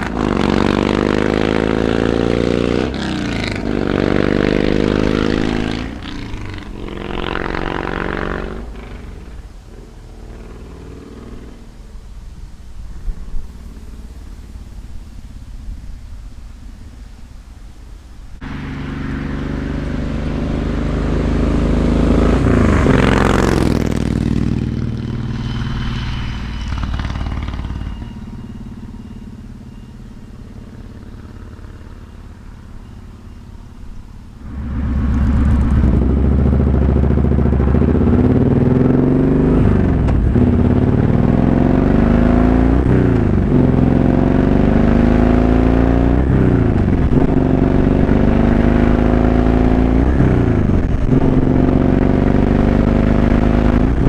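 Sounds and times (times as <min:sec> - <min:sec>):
motorcycle engine accelerating hard: 0:00.0 - 0:11.6, 0:18.4 - 0:54.0
motorcycle passing by: 0:00.0 - 0:12.0, 0:18.4 - 0:54.0.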